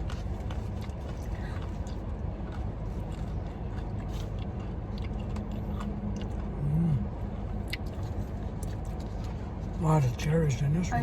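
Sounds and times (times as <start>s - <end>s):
person chewing: 0.0s - 9.8s
steady low rumble: 0.0s - 11.0s.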